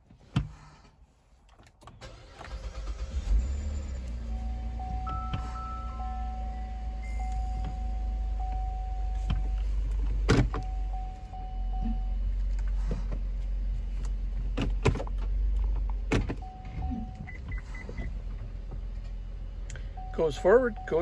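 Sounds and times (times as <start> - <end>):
car engine idling: 2.0 - 21.0.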